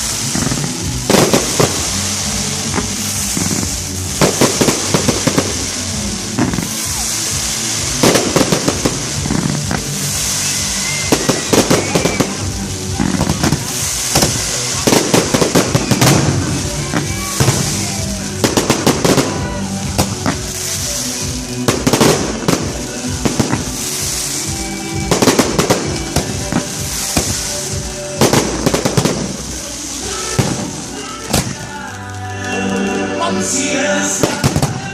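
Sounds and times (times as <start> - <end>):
fireworks bangs and crackling: 0.0 - 34.9
music playing: 0.0 - 34.9.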